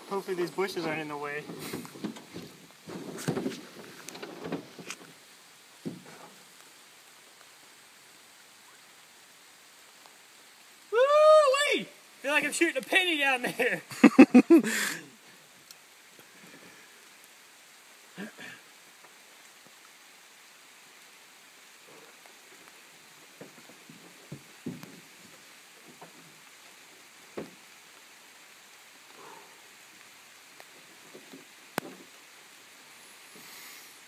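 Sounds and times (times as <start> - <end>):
faint outdoor hiss: 0.0 - 34.0.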